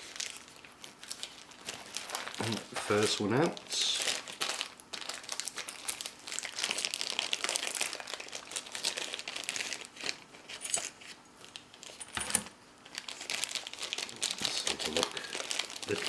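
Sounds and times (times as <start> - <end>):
paper wrapping crinkling: 0.0 - 16.0.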